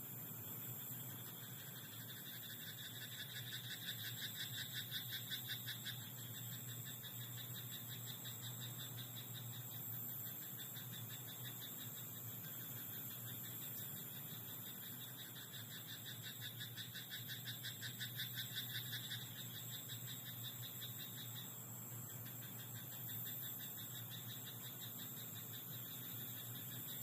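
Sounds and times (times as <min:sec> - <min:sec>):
frog chorus: 0:00.4 - 0:27.0
frog rapid croaking: 0:01.2 - 0:27.0.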